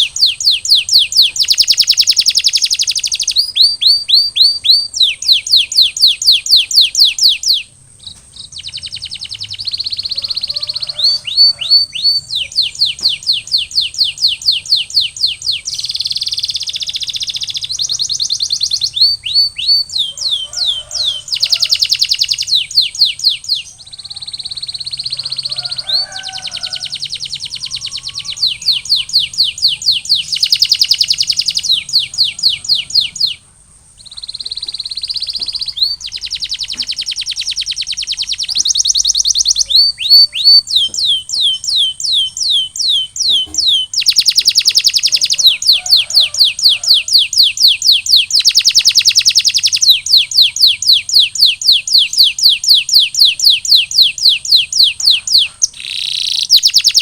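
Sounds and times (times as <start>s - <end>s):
canary singing in rolling trills: 0.0s - 57.0s.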